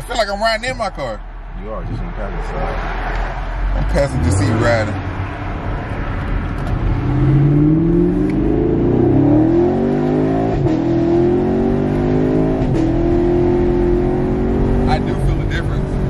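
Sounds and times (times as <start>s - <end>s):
car engine accelerating through gears: 2.5s - 16.0s.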